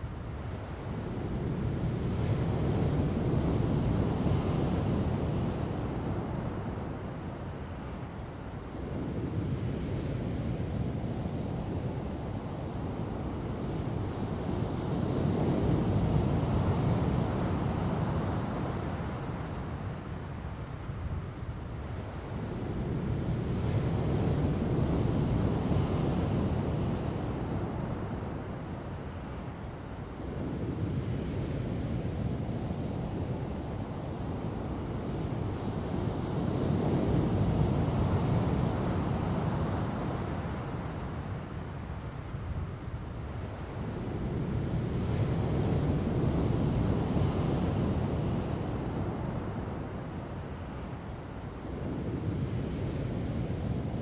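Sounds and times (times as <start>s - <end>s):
wind noise on microphone: 0.0s - 54.0s.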